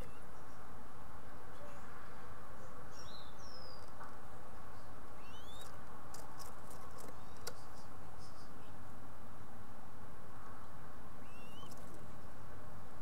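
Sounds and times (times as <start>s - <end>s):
small birds chirping: 0.0s - 9.0s, 10.4s - 13.0s.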